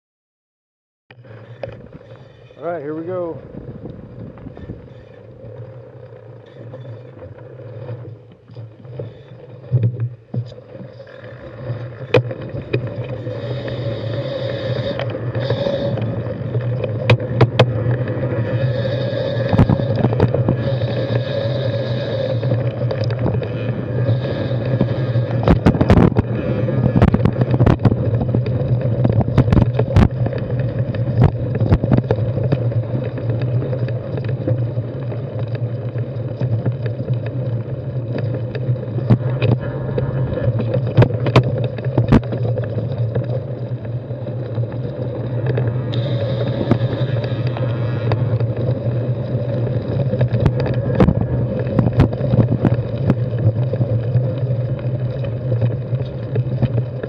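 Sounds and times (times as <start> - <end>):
bike tyres rumbling and rattling: 1.1 - 57.0
wheels knocking on stones: 1.5 - 57.0.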